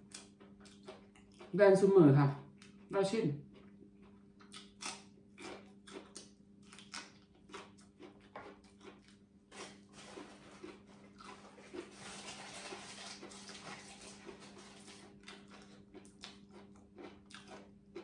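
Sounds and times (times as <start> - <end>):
low steady hum: 0.0 - 18.0
person chewing crunchy vegetable: 0.0 - 18.0.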